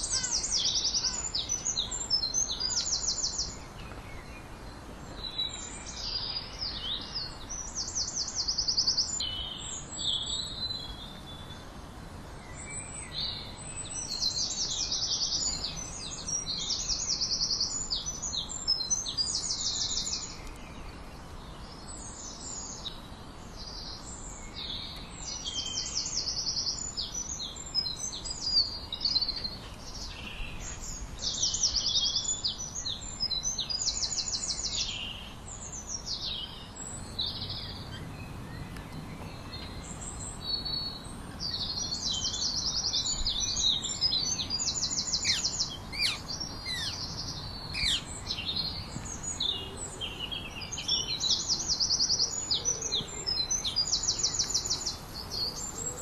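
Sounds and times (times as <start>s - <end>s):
songbirds singing: 0.0s - 11.7s, 12.4s - 56.0s
faint background hiss: 0.0s - 56.0s.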